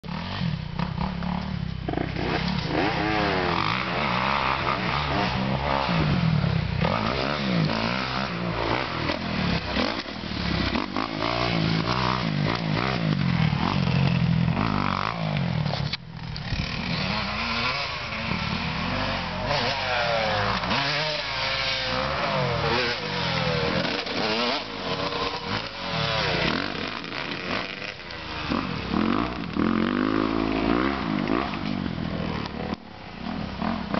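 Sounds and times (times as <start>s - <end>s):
dirt bike engines revving: 0.0s - 33.9s.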